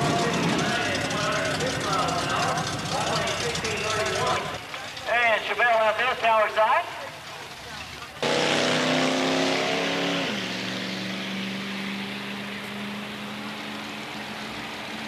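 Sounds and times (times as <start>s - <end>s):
drag racing car engine revving: 0.0s - 5.1s, 7.5s - 15.0s.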